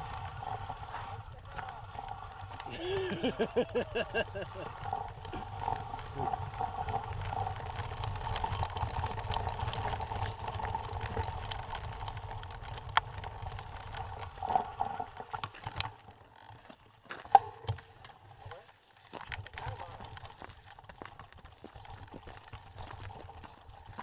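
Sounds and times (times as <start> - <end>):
bike clicks and rattles: 0.0 - 24.0
tyres rumbling on gravel: 0.0 - 24.0.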